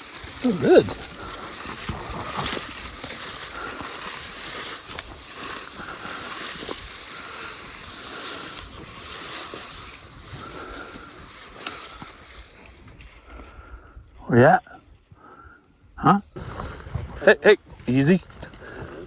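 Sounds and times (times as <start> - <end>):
walking through tall grass: 0.0 - 19.0.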